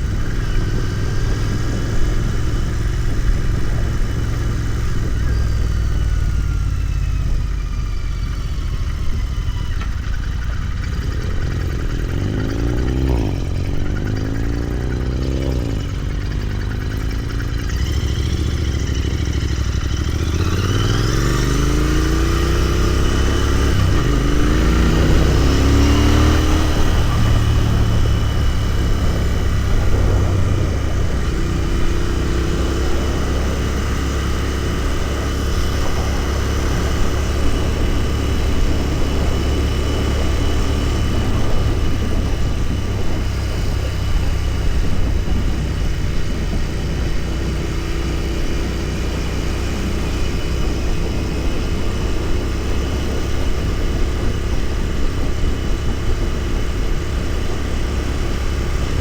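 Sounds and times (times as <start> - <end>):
gear change: 0.0 - 59.0
motorcycle engine revving: 0.0 - 59.0.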